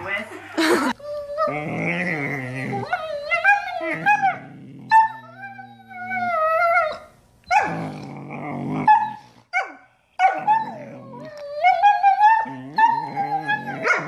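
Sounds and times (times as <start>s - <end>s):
dogs growling: 0.2s - 7.0s, 7.6s - 9.5s, 10.4s - 14.0s
dogs whining and yowling: 0.5s - 9.4s, 10.2s - 14.0s.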